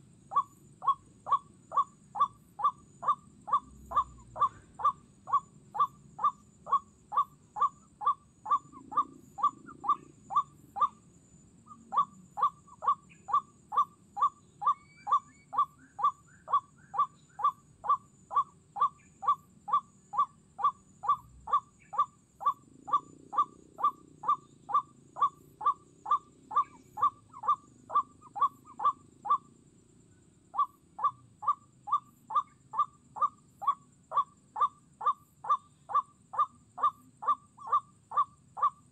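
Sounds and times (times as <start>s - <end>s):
waterhen calling: 0.0s - 11.0s, 11.9s - 29.4s, 30.6s - 38.9s.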